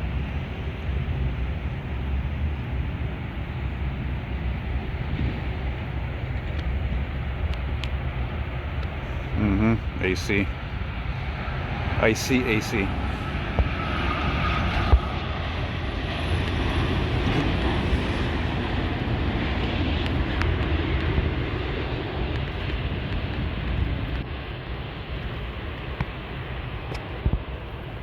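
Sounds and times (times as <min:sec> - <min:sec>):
high engine whine: 0:00.0 - 0:28.0
jet engines roaring: 0:00.0 - 0:28.0.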